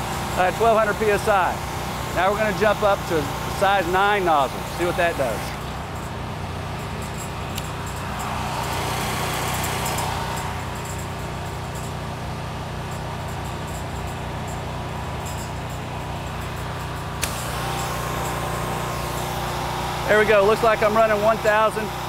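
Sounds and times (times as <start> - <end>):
pressure washer engine running: 0.0 - 22.0.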